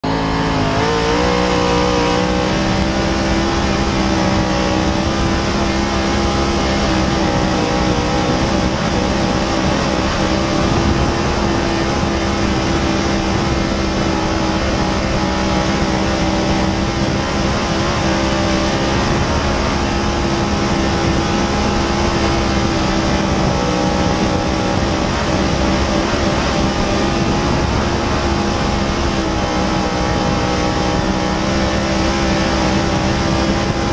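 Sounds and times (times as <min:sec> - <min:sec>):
race car engine drone: 0:00.0 - 0:33.9.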